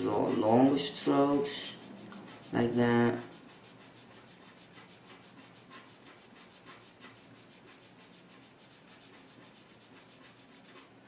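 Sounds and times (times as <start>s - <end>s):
pen scratching on paper: 0.0s - 11.0s.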